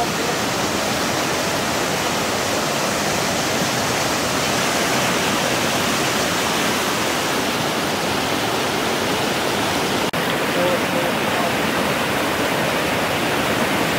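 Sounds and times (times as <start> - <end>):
floodwater rushing over dam: 0.0 - 13.9.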